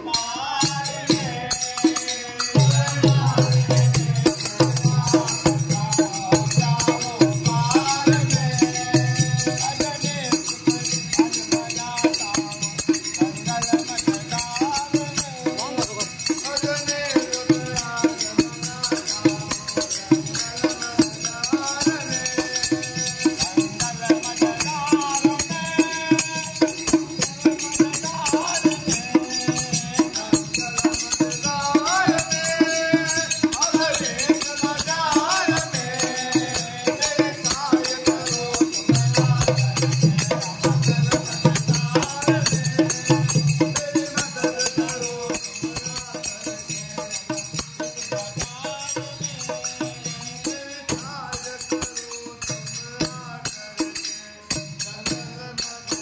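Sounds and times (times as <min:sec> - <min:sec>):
men singing a folk song: 0:00.0 - 0:56.0
small hand cymbals struck: 0:00.1 - 0:56.0.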